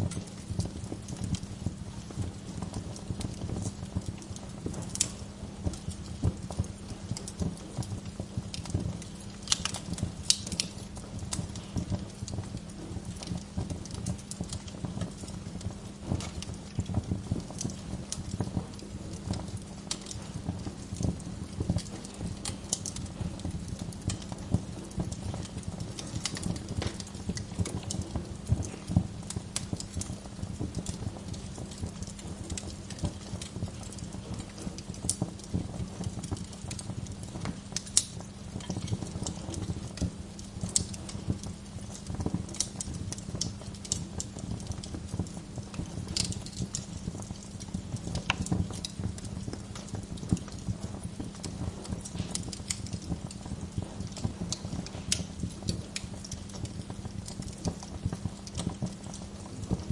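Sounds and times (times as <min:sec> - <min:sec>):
low rumble of burning logs: 0:00.0 - 0:59.9
wood fire crackling: 0:00.0 - 0:59.9.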